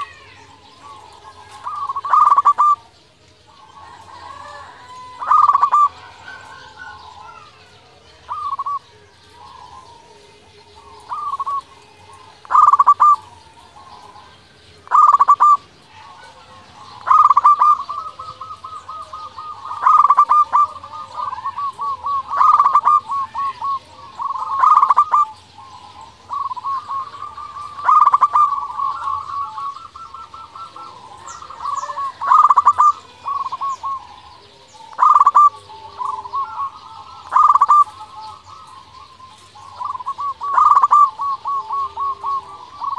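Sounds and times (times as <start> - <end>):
dove trilled cooing: 0.0 - 42.9.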